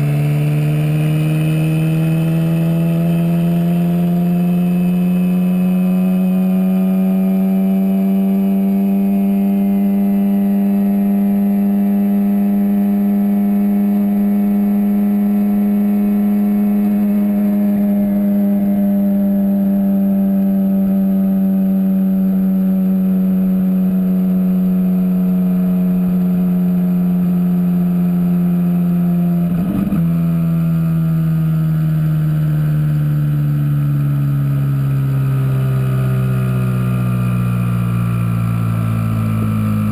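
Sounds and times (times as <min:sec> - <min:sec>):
sports car engine running: 0:00.0 - 0:39.9.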